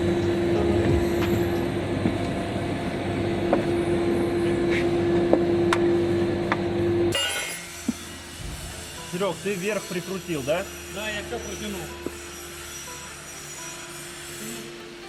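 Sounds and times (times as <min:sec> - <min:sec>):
machine humming: 0:00.0 - 0:12.8.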